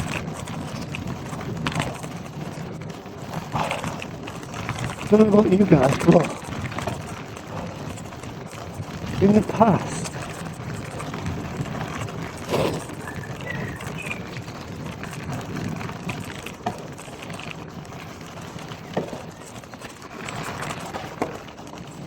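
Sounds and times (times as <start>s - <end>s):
bike knocks and rattles: 0.0s - 22.0s
bike tyres rolling on gravel: 0.0s - 22.0s.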